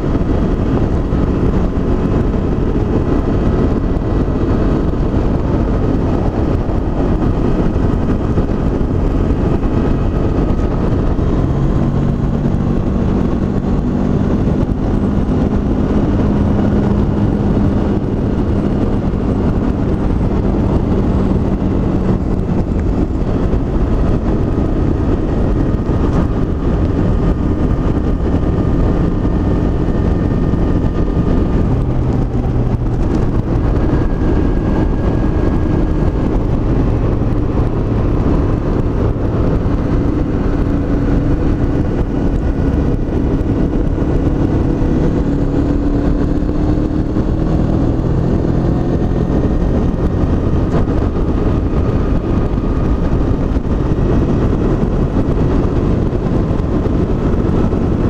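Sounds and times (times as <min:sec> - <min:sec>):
motorcycle engine cruising: 0:00.0 - 0:58.0
wind rush: 0:00.0 - 0:58.0.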